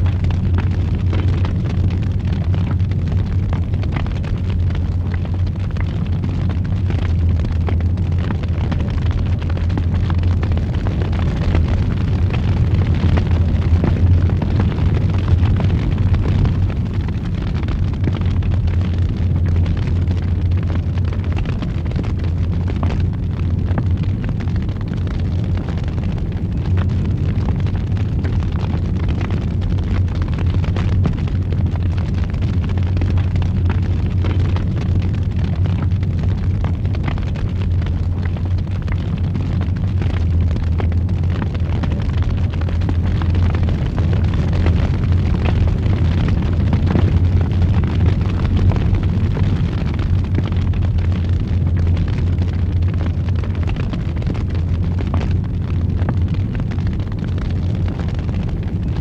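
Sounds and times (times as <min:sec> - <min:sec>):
fire crackles and pops: 0:00.0 - 0:59.0
wood fire roaring: 0:00.0 - 0:59.0.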